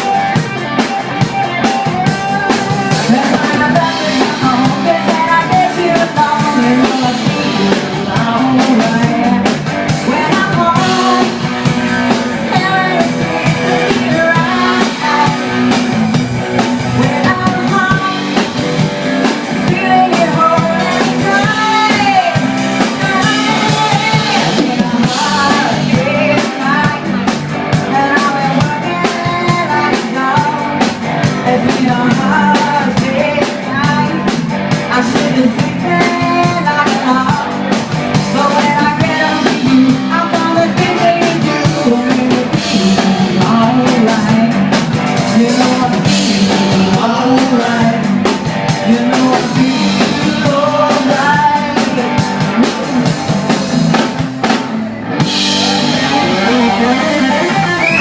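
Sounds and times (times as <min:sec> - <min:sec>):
person singing: 0:00.0 - 0:54.2, 0:55.4 - 0:58.0
live rock band playing: 0:00.0 - 0:58.0.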